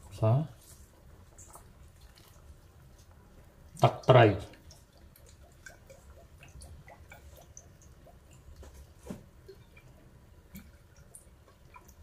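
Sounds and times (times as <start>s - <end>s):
soup simmering with pops: 0.9s - 12.0s.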